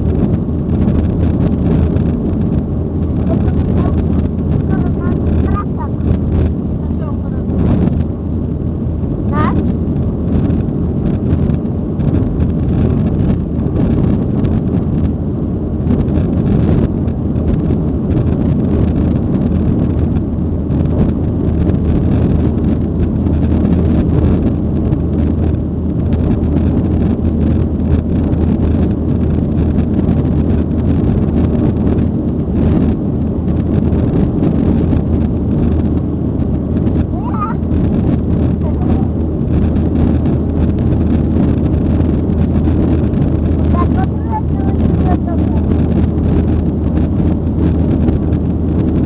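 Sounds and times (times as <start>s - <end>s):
airflow over fuselage: 0.0s - 49.0s
airplane cabin engine rumble: 0.0s - 49.0s.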